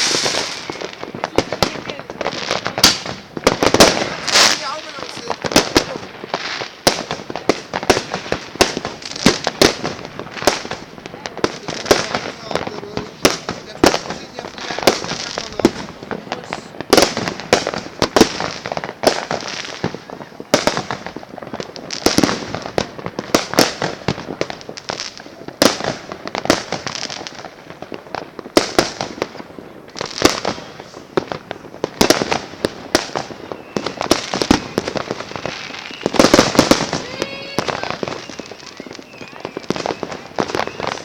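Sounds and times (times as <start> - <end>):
fireworks and firecrackers banging: 0.0 - 41.0.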